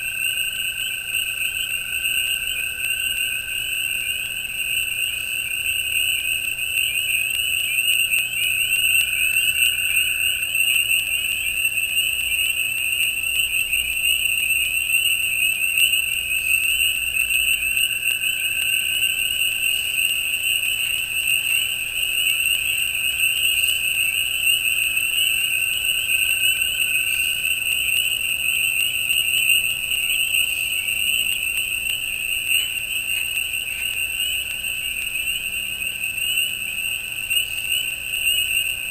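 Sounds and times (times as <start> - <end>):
crickets trilling: 0.0 - 38.9
frogs peeping in chorus: 0.0 - 38.9.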